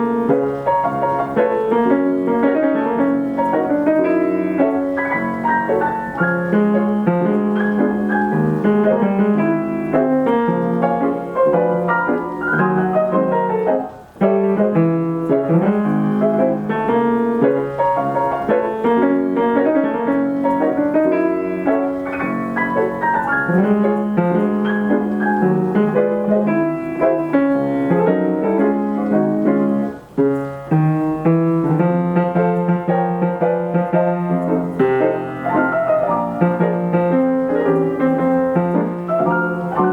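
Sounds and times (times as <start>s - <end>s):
player piano popular song: 0.0s - 39.9s.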